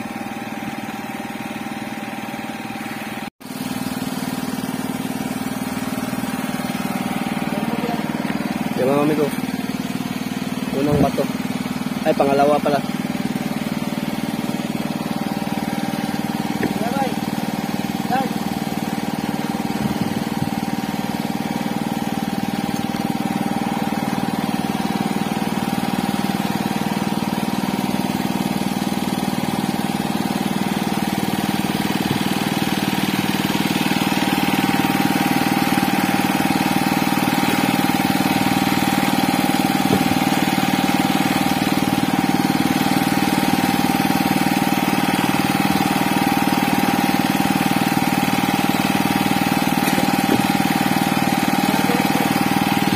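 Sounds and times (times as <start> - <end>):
boat engine droning: 0.0 - 52.9.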